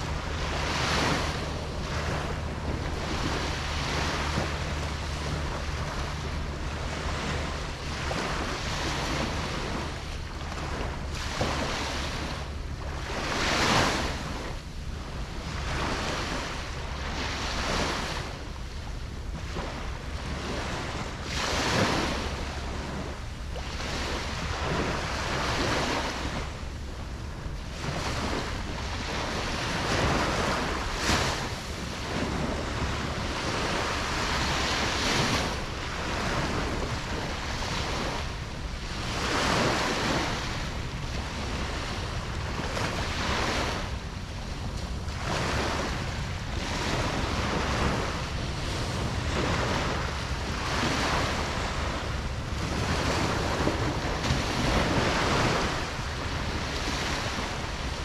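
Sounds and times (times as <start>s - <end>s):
ocean waves crashing on beach: 0.0s - 58.0s.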